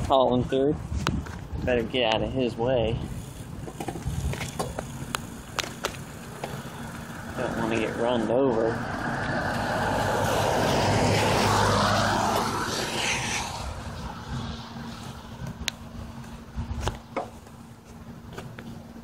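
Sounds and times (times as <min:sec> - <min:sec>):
low engine hum: 0:03.0 - 0:19.0.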